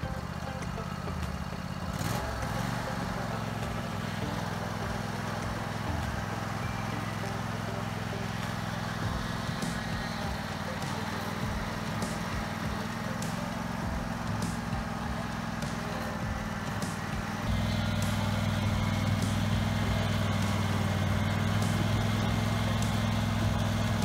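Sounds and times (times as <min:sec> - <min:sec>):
riding mower engine under load: 0:00.0 - 0:24.0.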